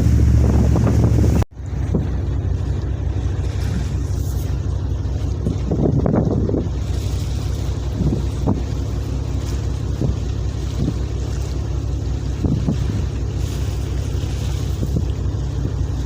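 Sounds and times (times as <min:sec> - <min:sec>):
wind on microphone: 0:00.0 - 0:02.3, 0:03.4 - 0:16.0
ship engine droning: 0:00.0 - 0:16.0.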